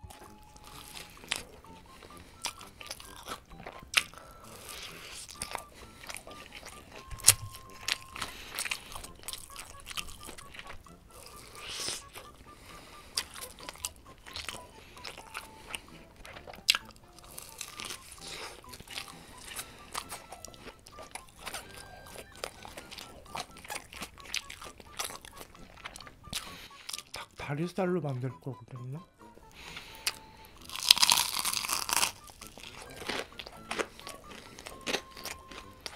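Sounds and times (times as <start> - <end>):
crunchy chewing: 0.0 - 27.2, 29.5 - 35.9.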